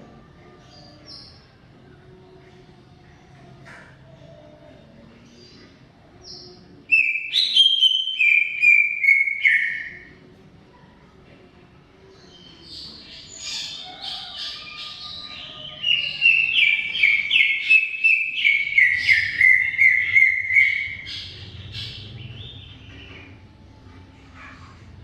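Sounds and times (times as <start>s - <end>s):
bird song: 0.0s - 1.6s, 2.2s - 10.2s, 12.0s - 23.5s.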